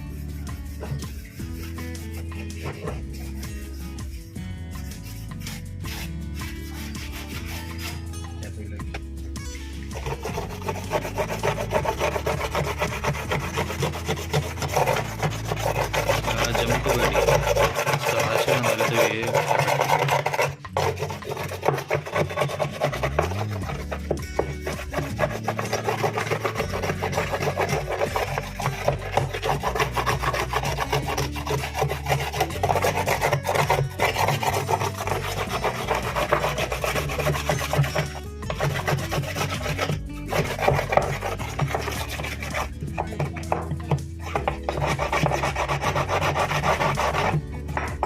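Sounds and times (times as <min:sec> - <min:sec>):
brush scrubbing: 0:00.0 - 0:08.4, 0:09.7 - 0:48.0
background music: 0:00.0 - 0:48.0.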